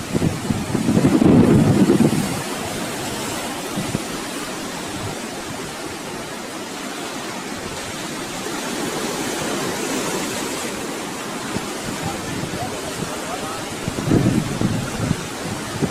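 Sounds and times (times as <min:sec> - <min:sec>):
ocean surf washing onto beach: 0:00.0 - 0:15.9
wind buffeting microphone: 0:00.0 - 0:15.9.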